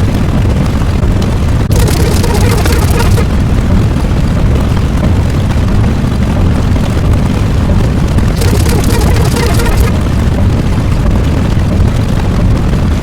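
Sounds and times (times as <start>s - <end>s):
loud rumbling noise with hiss: 0.0s - 13.0s.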